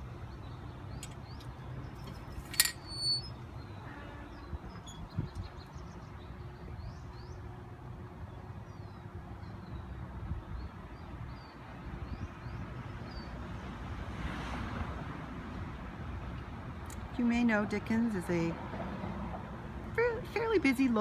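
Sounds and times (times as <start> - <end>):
distant traffic rumble: 0.0 - 10.2, 11.8 - 21.0.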